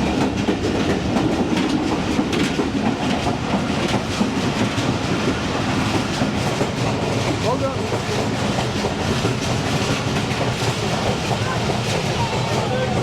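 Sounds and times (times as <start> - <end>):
train wheels clattering on track: 0.0 - 13.0.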